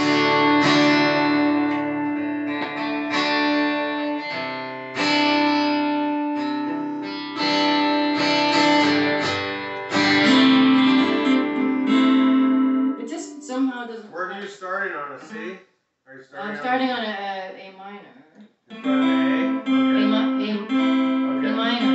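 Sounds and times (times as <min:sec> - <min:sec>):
acoustic guitars strumming chords: 0:00.0 - 0:15.5, 0:16.4 - 0:17.2, 0:18.7 - 0:21.9.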